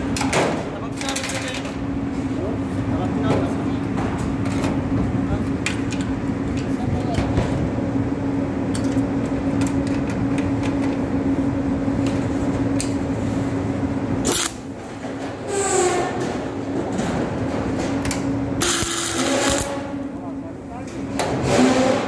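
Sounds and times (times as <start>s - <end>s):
stud welding equipment humming: 0.0s - 22.0s.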